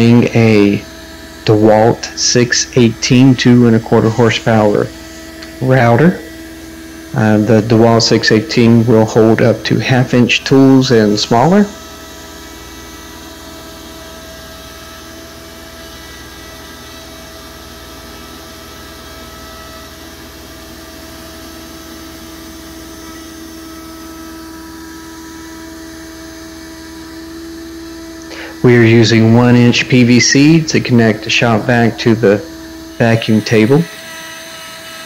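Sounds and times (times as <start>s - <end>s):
router carving wood: 0.0s - 35.0s
shop vac droning: 0.0s - 35.0s.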